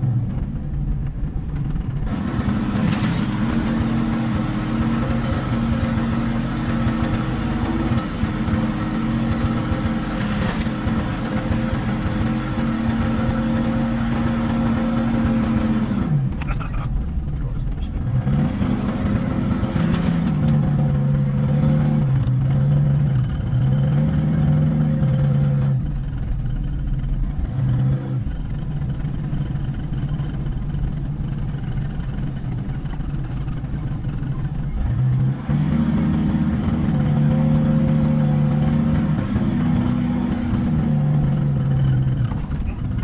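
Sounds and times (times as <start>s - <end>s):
engine running: 0.0s - 43.0s.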